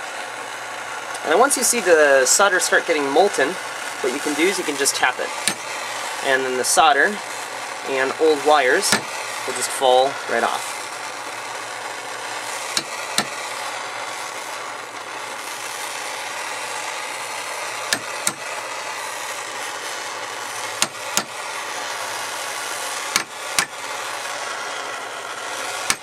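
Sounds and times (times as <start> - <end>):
torch flame hissing: 0.0 - 26.0.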